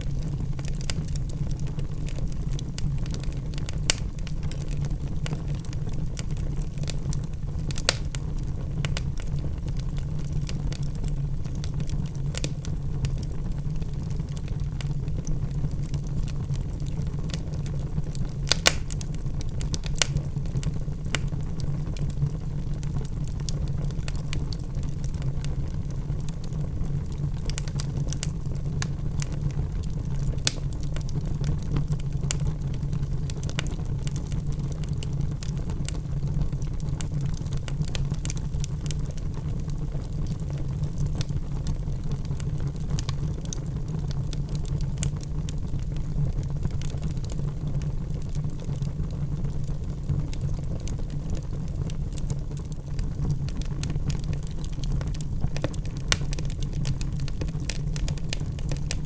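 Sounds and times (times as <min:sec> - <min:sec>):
logs burning with crackles: 0:00.0 - 0:59.0.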